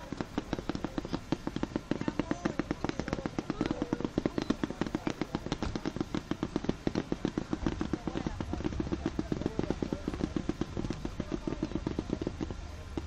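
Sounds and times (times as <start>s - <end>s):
fireworks popping: 0.0s - 13.0s.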